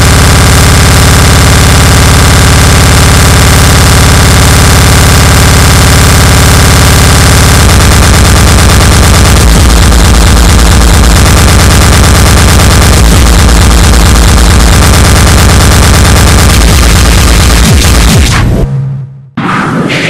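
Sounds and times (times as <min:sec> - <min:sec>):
distorted kick drums hammering: 0:00.0 - 0:18.6
dense wall of noise: 0:00.0 - 0:20.0.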